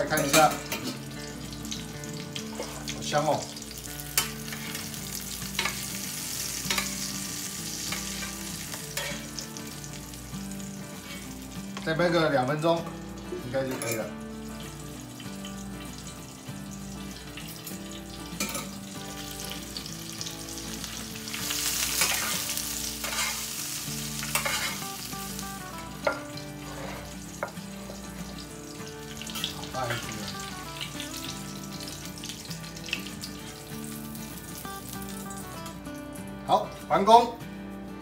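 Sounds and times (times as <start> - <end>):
butter sizzling in frying pan: 0.0 - 36.6.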